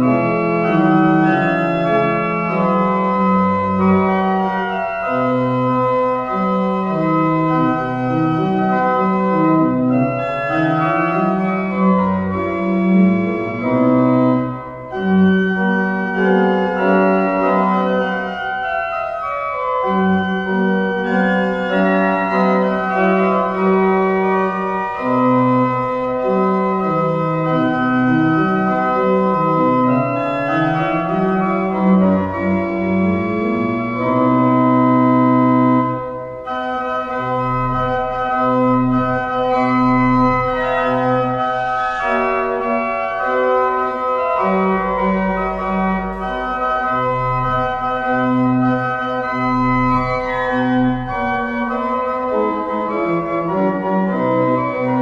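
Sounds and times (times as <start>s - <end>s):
pipe organ playing march: 0.0s - 55.0s.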